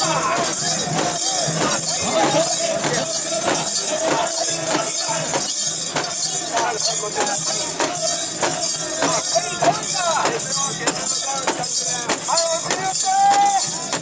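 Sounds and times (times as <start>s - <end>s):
bearers chanting and shouting: 0.0s - 14.0s.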